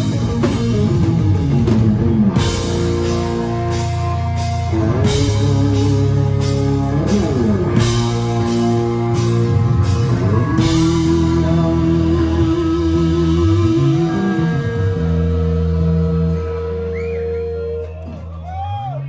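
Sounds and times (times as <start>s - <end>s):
electric guitar sliding notes: 0.0s - 18.0s
rock band playing: 0.0s - 19.0s.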